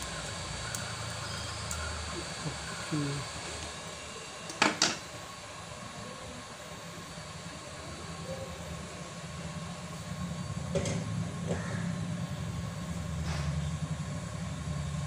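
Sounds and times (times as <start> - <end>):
hot air blower hissing: 0.0 - 15.0.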